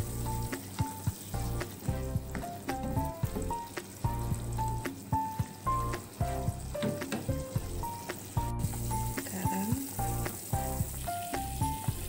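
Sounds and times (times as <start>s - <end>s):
background music with bass: 0.0s - 9.4s, 10.0s - 12.0s
stew bubbling and sizzling: 0.0s - 12.0s.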